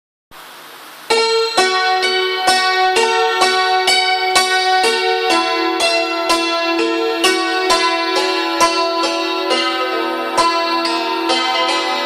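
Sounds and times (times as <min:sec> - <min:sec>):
hammered dulcimer melody: 0:01.1 - 0:12.0.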